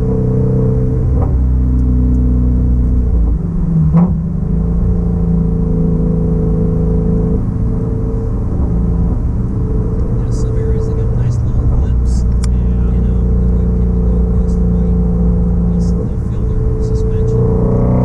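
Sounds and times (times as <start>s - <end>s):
car engine cruising: 0.0s - 18.0s.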